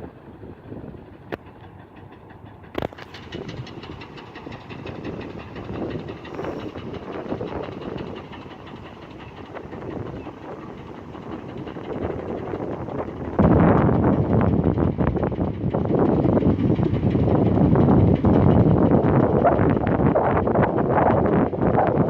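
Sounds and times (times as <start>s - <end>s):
rapid repeated knocking clatter: 1.3s - 20.2s.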